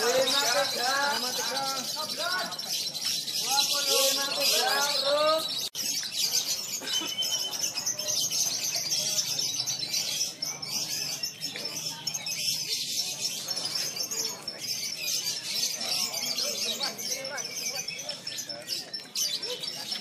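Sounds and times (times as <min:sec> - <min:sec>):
chorus of songbirds: 0:00.0 - 0:20.0.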